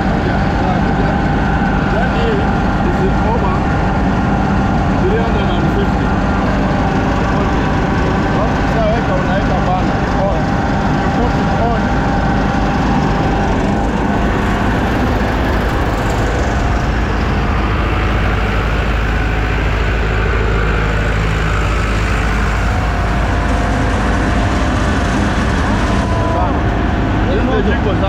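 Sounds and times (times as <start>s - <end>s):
grain dryer droning: 0.0s - 28.0s.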